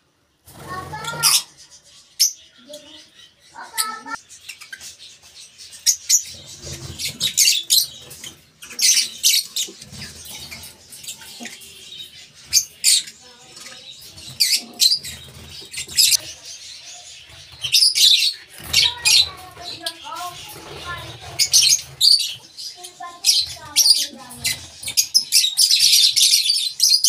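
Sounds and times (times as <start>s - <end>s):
lovebirds chirping: 0.3s - 27.0s.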